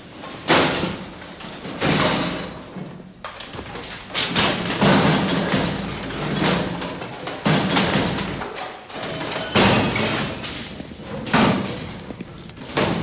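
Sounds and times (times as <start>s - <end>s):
loud crashes of metal beds: 0.0s - 13.0s
rattling furniture: 0.2s - 13.0s.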